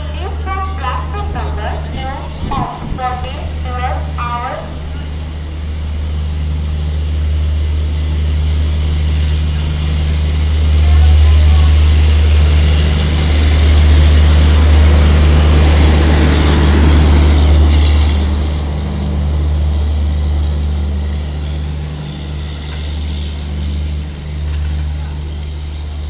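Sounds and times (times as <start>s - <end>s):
low drone: 0.0s - 26.0s
train coaches rolling past: 0.0s - 26.0s.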